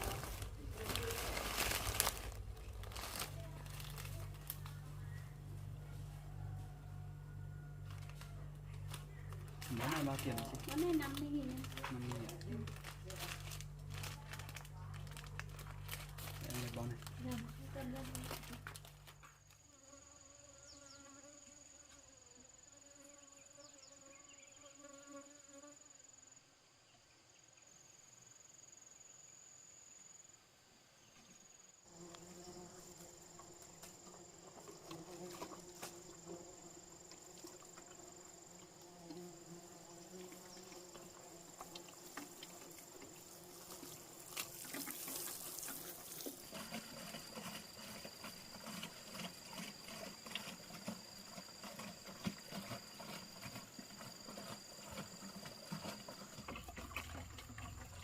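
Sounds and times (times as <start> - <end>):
insect buzzing hum: 0.0 - 58.0.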